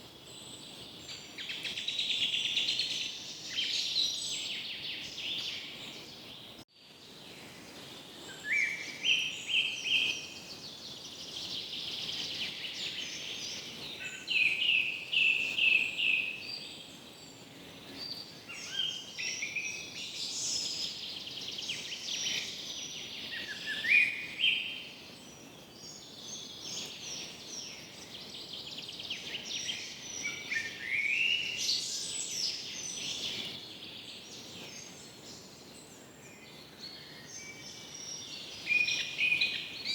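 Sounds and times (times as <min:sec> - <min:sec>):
birds calling and chirping: 0:00.0 - 0:39.9
steady background hiss: 0:00.0 - 0:39.9.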